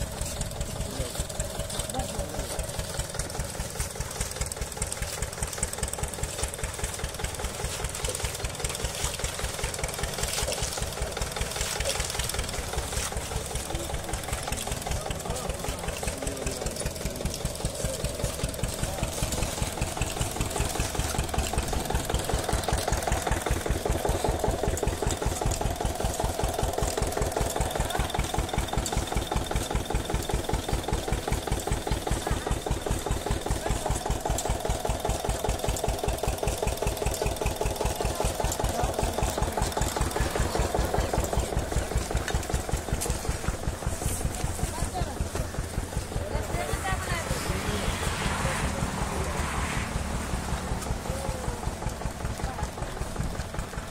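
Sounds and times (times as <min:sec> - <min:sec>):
engine thumping: 0:00.0 - 0:53.9.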